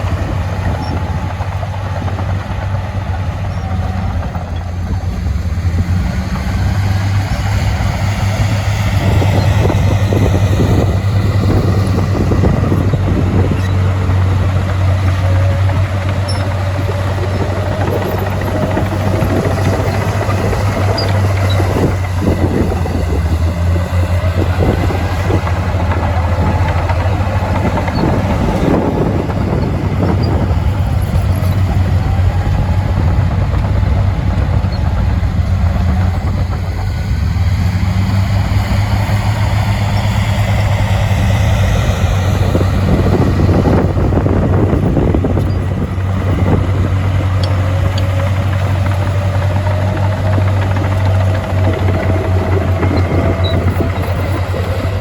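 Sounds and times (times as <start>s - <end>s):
heavy diesel machinery engine drone: 0.0s - 55.0s.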